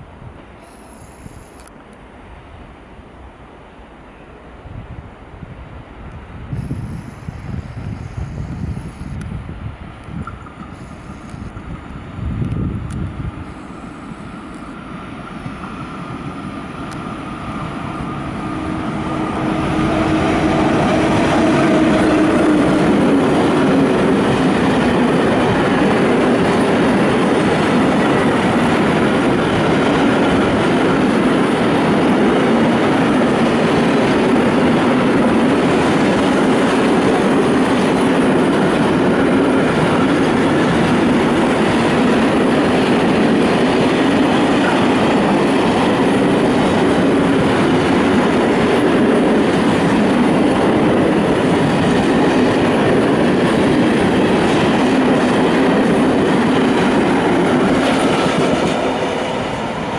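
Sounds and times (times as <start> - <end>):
freight train rumbling past: 2.1 - 59.9.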